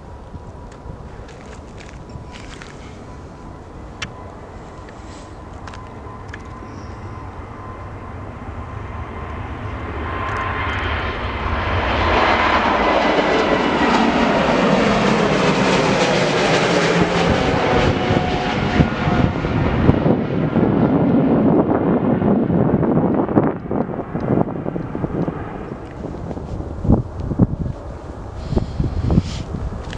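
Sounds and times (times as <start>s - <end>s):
jet airliner passing by: 0.0s - 29.9s.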